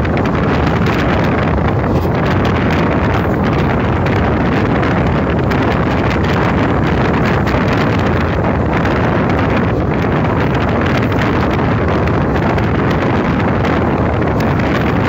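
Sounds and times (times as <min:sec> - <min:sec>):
train wheel and rail noise: 0:00.0 - 0:15.0
wind buffeting microphone: 0:00.0 - 0:15.0.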